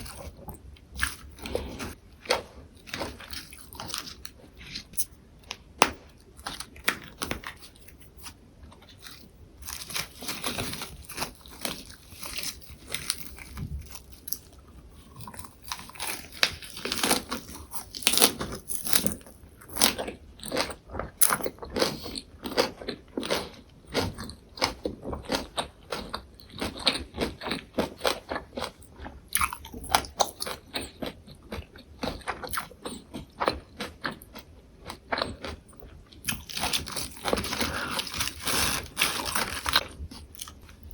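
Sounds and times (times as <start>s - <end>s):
chewing crisp leaves: 7.4s - 40.9s.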